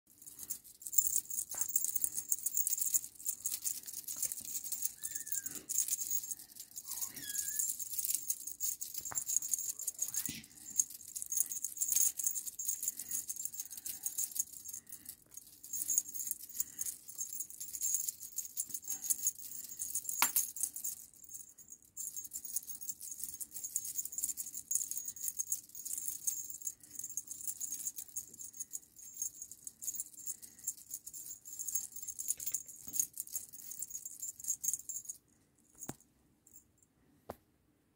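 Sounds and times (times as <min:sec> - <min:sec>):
cat toy rattling and crinkling: 0:00.1 - 0:35.2.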